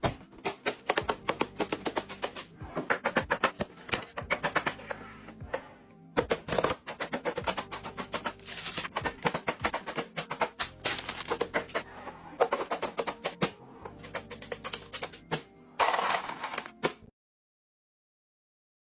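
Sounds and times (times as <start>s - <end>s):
background music: 0.0s - 17.1s.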